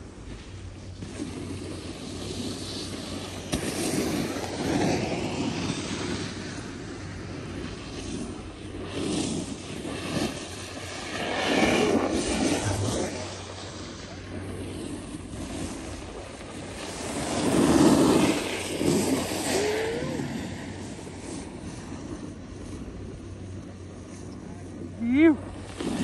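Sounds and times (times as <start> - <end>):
snowboards scraping over snow: 0.0 - 26.0
wind rushing over microphone: 0.0 - 26.0.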